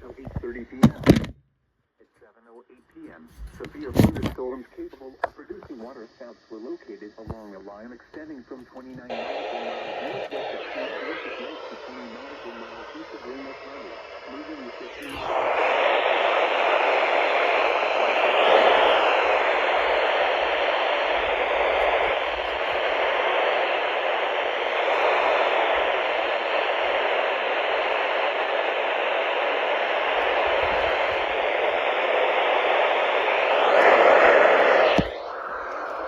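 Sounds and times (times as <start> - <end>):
radio static hiss: 0.0 - 1.3, 2.0 - 36.0.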